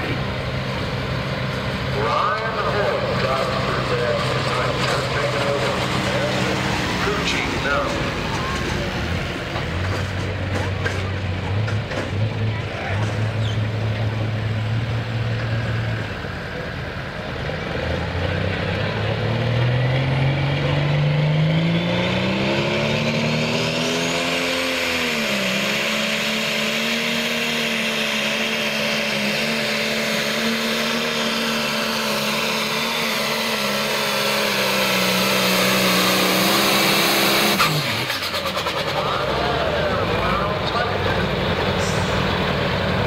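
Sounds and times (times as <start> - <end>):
diesel tractor engine at full throttle: 0.0 - 43.0.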